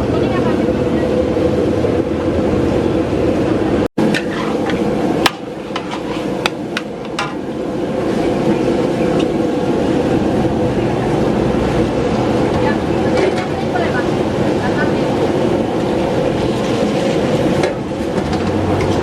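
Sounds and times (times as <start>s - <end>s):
gas burner rushing: 0.0s - 19.0s.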